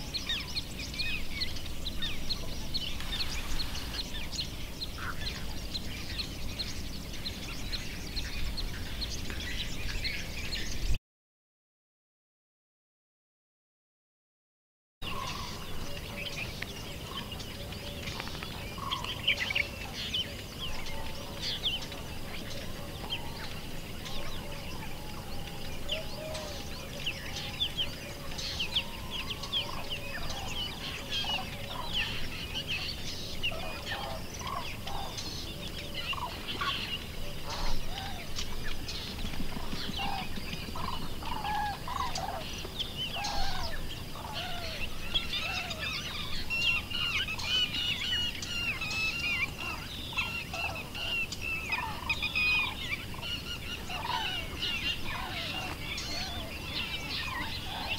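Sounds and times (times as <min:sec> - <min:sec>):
small birds chirping: 0:00.0 - 0:11.0, 0:15.0 - 0:57.9.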